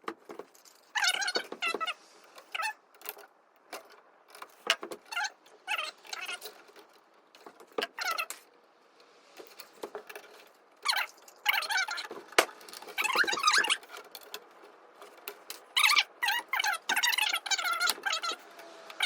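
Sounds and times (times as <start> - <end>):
rustling of wire: 0.0 - 19.0.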